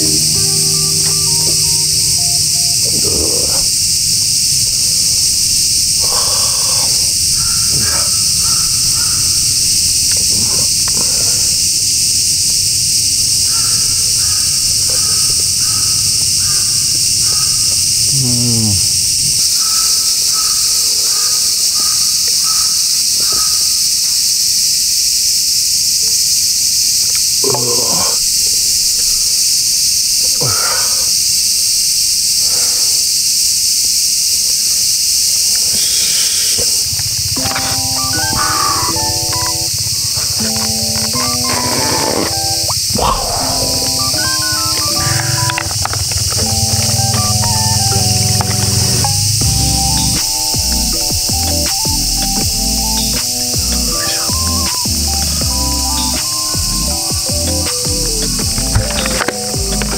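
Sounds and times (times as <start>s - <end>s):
birds calling: 0.0s - 18.1s, 19.2s - 24.0s, 27.3s - 31.8s, 34.4s - 59.9s
cicadas droning: 0.0s - 59.9s.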